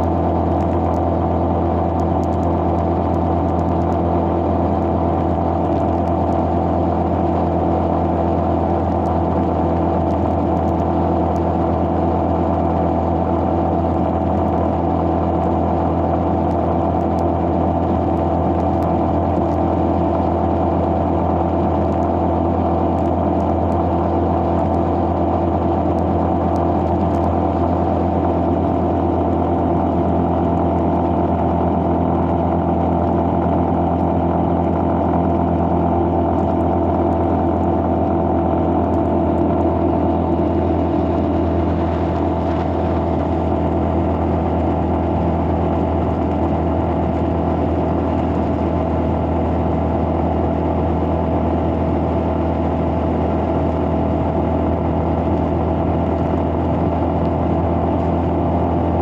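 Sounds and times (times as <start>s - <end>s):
road noise: 0.0s - 59.0s
vehicle engine cruising: 0.0s - 59.0s.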